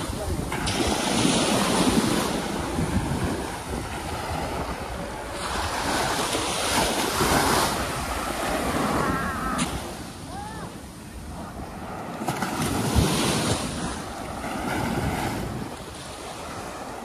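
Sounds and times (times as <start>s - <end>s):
waves breaking on beach: 0.0s - 17.0s
wind rumbling on microphone: 0.0s - 17.0s.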